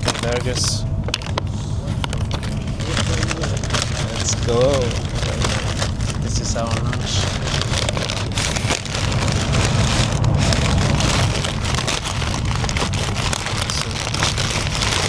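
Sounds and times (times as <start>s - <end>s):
food packaging crinkling: 0.0s - 15.0s
train low rumble: 0.0s - 15.0s.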